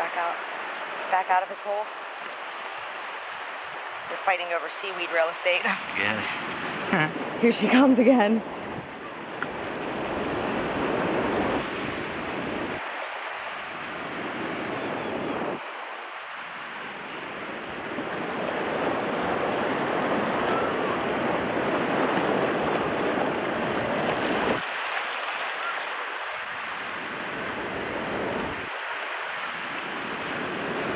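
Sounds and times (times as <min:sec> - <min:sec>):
sea surf on rocky shore: 0:00.0 - 0:30.9
wind rumbling on microphone: 0:05.2 - 0:30.9.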